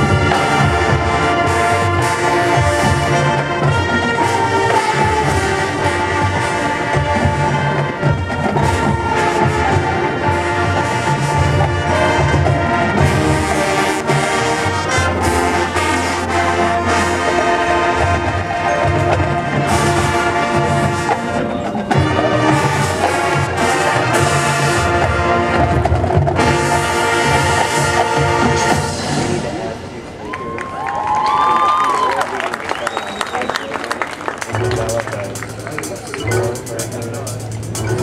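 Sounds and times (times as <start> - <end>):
percussion hits: 0.0 - 30.0, 34.4 - 38.0
brass chords: 0.0 - 30.2, 34.4 - 38.0
marching band playing: 0.0 - 30.2, 33.2 - 38.0.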